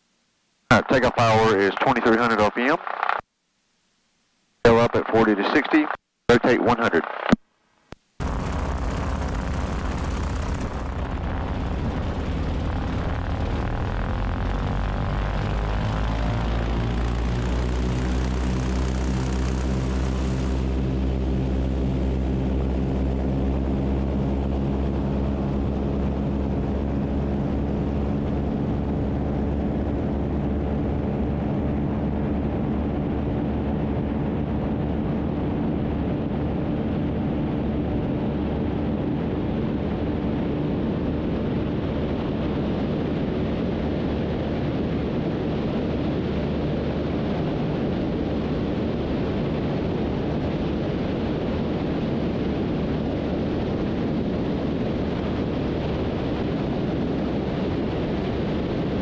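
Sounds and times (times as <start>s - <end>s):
propeller plane engines droning: 8.2s - 59.0s.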